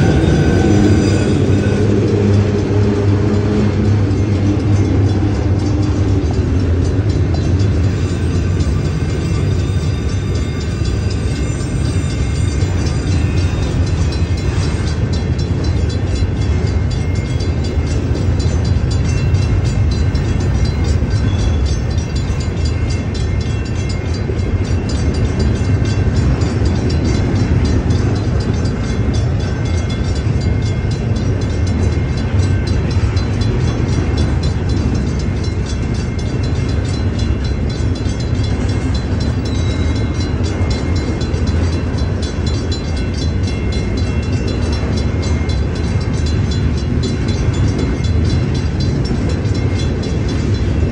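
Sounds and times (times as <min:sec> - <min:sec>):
crossing bell ringing: 0:00.0 - 0:50.9
freight train wheels rumbling: 0:00.0 - 0:50.9.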